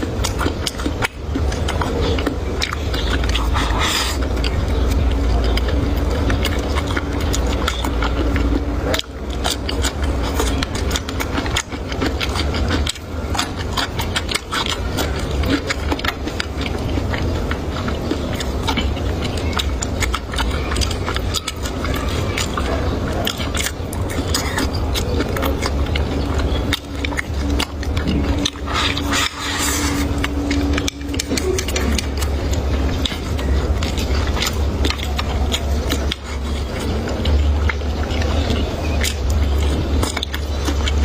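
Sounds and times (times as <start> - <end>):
chewing clicks and crackles: 0.0 - 41.0
steady low hum: 0.0 - 41.0.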